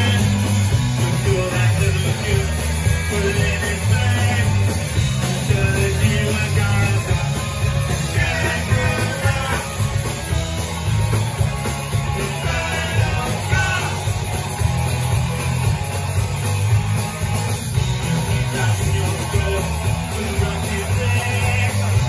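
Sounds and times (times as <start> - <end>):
drums: 0.0 - 22.0
electric guitars: 0.0 - 22.0
punk rock band playing: 0.0 - 22.0.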